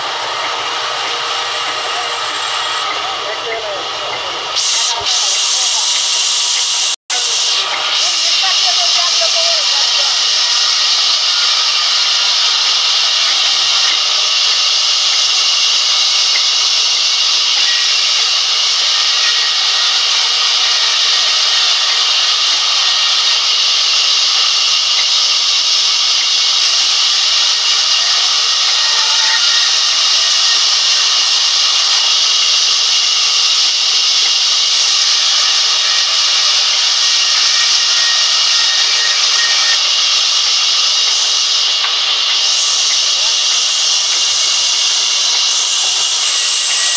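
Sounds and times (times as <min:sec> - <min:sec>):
band saw cutting timber: 0:00.0 - 0:46.9.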